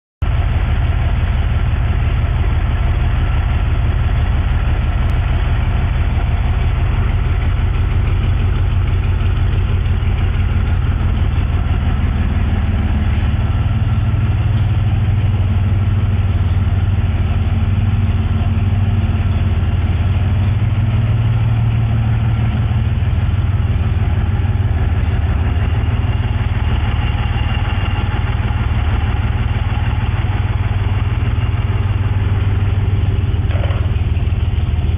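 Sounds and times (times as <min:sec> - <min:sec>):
car engine idling: 0:00.2 - 0:34.9.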